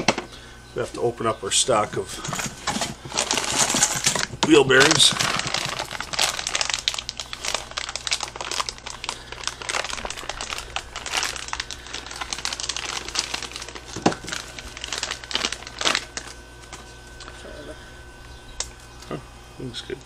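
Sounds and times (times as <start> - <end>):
wrapping crinkling and rustling: 1.8 - 19.2.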